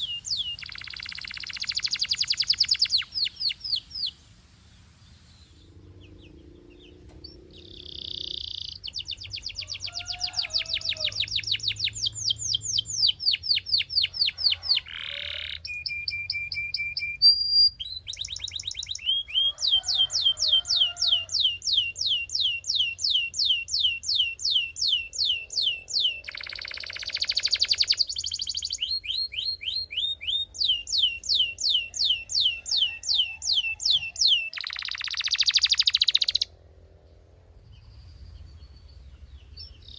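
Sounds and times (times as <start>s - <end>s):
canary singing trills: 0.0s - 4.2s, 5.0s - 36.6s.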